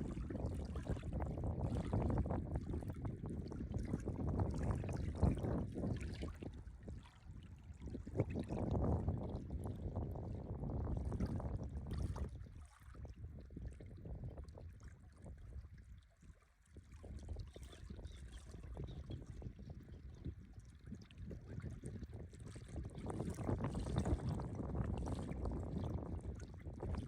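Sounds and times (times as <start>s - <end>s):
wind buffeting microphone: 0.0s - 16.0s, 16.8s - 27.0s.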